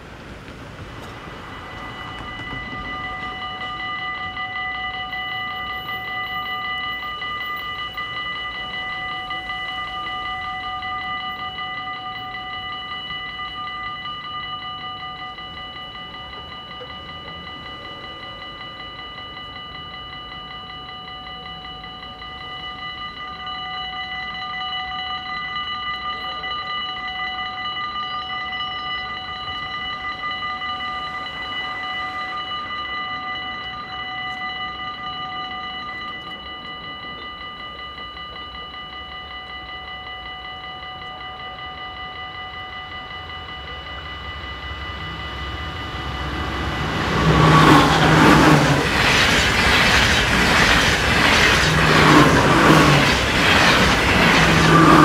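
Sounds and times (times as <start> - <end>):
level crossing bell ringing: 0.8 - 55.0.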